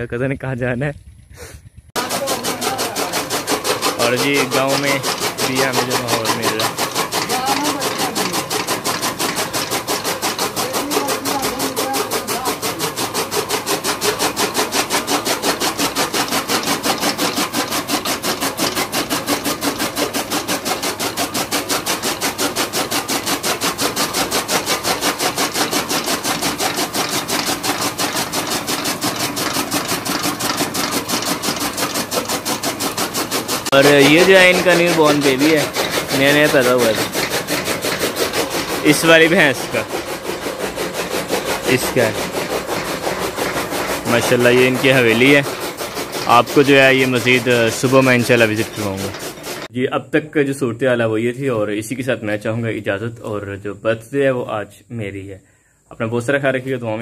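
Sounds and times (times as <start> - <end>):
machine chugging: 2.0 - 49.7.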